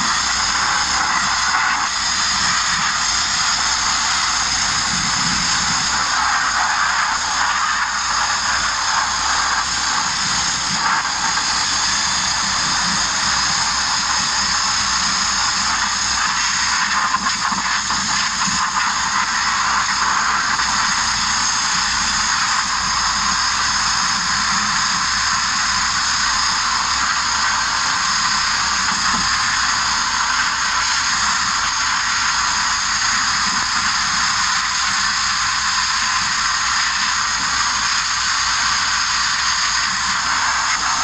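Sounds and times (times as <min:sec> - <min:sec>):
abrasive blasting hiss: 0:00.0 - 0:41.0.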